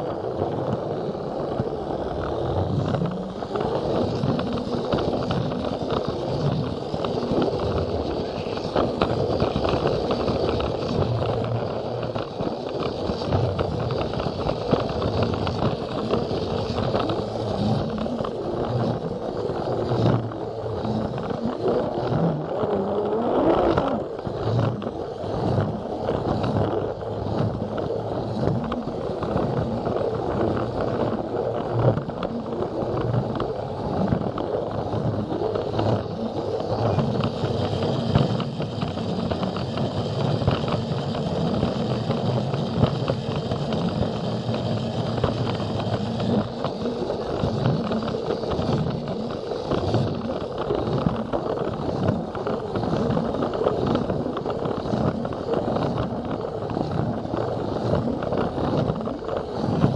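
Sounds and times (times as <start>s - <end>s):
wheels clicking on track: 0.0s - 59.9s.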